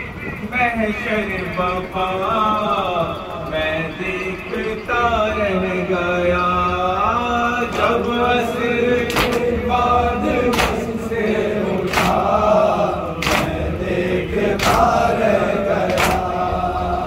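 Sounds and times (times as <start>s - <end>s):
man singing lead: 0.0s - 17.0s
men chanting: 0.7s - 17.0s.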